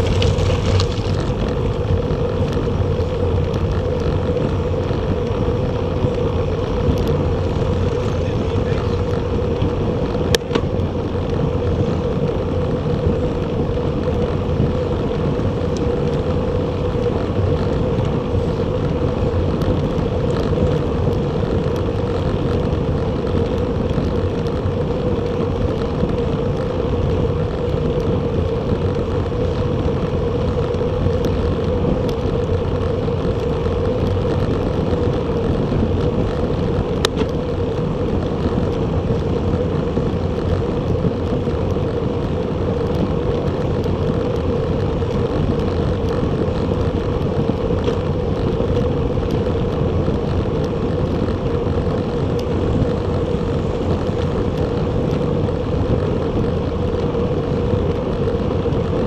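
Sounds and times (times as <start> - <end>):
constant mid-pitched hum: 0.0 - 59.0
wind and road rush: 0.0 - 59.0.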